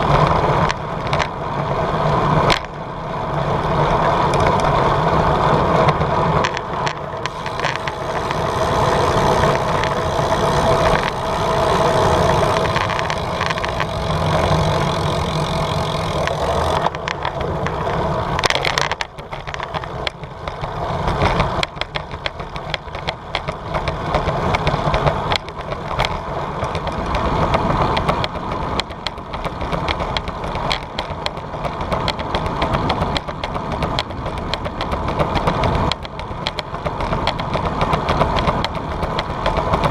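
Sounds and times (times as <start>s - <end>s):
small clicks and rattles: 0.0s - 1.6s, 2.4s - 2.8s, 4.0s - 39.9s
wind and road noise: 0.0s - 39.9s.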